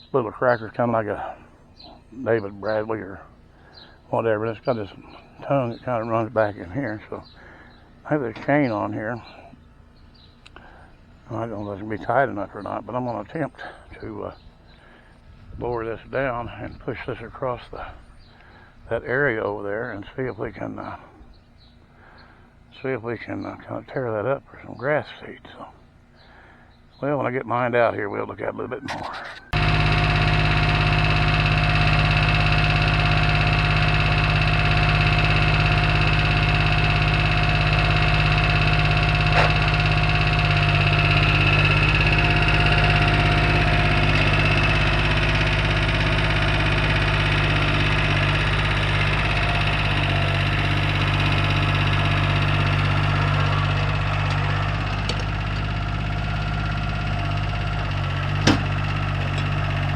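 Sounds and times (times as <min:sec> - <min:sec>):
tractor engine running: 0:00.0 - 0:20.8, 0:29.0 - 0:59.9.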